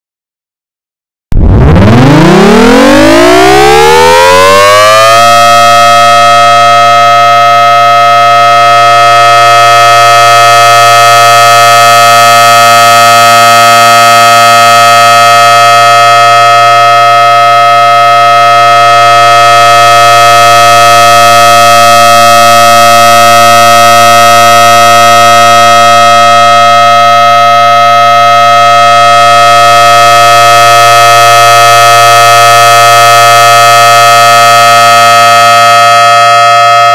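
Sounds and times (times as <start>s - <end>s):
warning siren steady tone: 1.3s - 36.9s.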